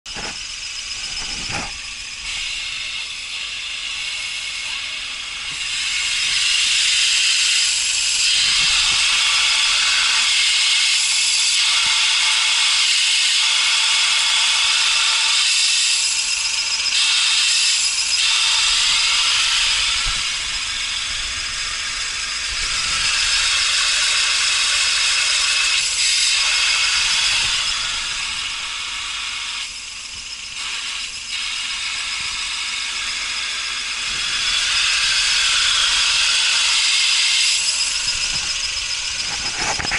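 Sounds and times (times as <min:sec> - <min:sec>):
high hissing whir: 0:00.1 - 0:39.9.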